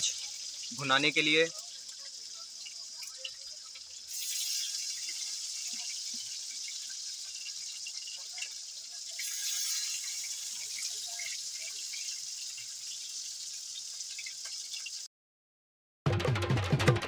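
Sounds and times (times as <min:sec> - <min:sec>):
onion sizzling in hot oil: 0:00.0 - 0:15.1.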